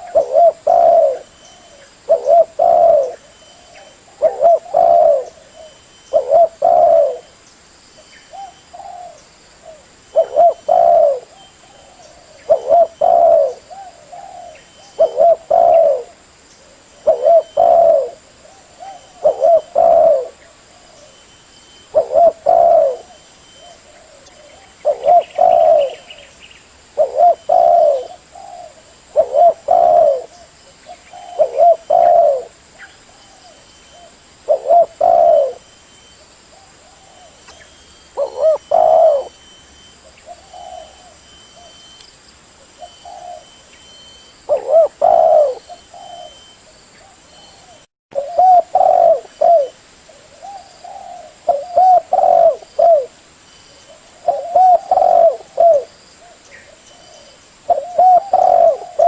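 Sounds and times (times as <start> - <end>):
dove cooing: 0.0 - 7.3, 8.3 - 26.3, 27.0 - 35.8, 36.5 - 42.0, 42.7 - 53.2, 53.8 - 59.0.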